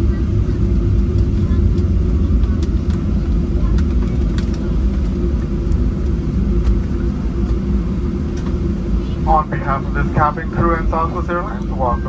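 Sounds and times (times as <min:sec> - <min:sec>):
airplane engines near idle: 0:00.0 - 0:12.0.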